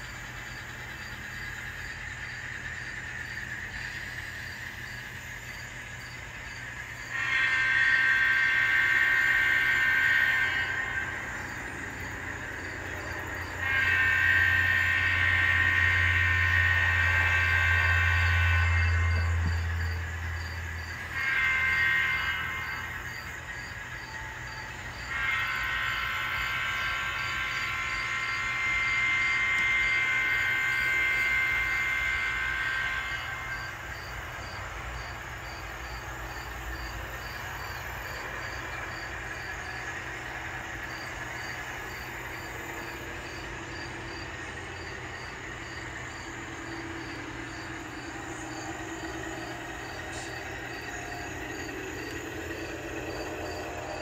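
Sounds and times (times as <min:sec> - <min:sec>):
diesel engine sound: 0:00.0 - 0:54.0
model train air horn: 0:00.0 - 0:54.0.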